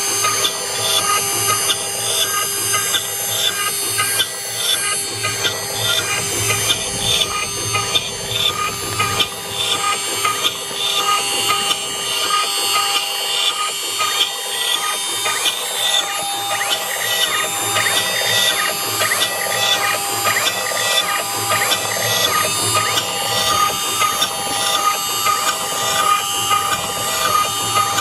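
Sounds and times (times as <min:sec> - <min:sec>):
rising and falling machine whines: 0:00.0 - 0:28.0
router spindle whine and cutting: 0:00.0 - 0:28.0.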